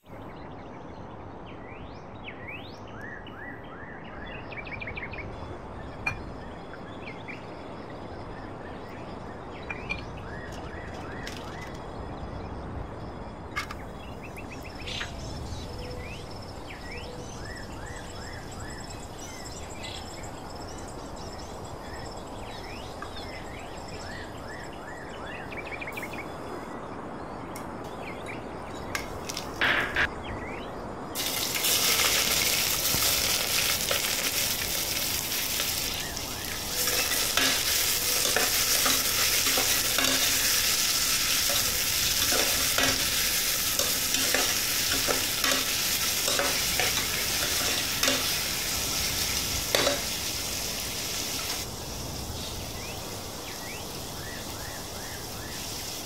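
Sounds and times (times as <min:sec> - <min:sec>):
small birds chirping: 0:00.0 - 0:56.0
steady background hiss: 0:04.0 - 0:56.0.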